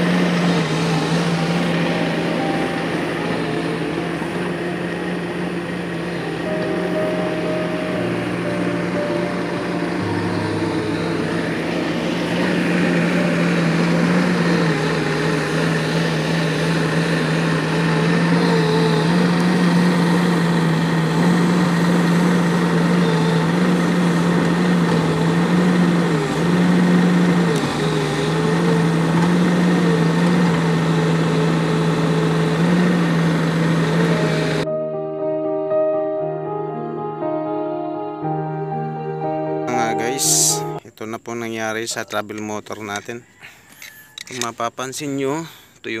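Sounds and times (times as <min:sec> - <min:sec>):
excavator diesel engine running: 0:00.0 - 0:34.8, 0:36.2 - 0:46.0.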